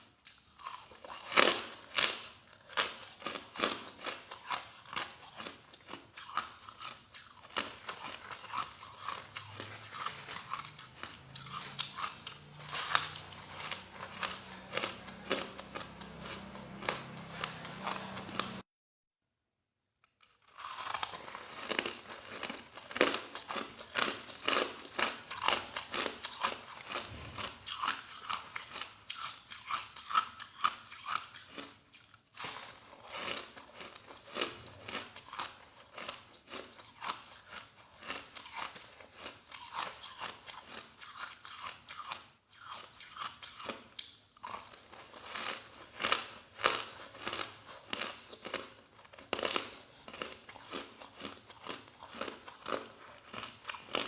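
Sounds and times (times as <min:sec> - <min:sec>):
chewing crushed ice: 0:00.0 - 0:18.6, 0:20.0 - 0:54.0.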